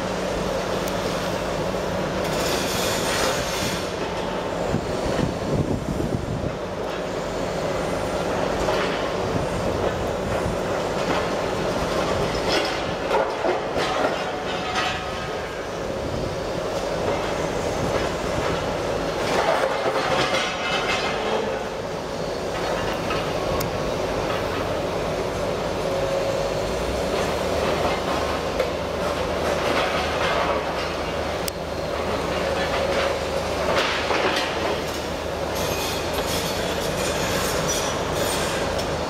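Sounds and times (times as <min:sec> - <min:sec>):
excavator engine and hydraulic drone: 0:00.0 - 0:39.0.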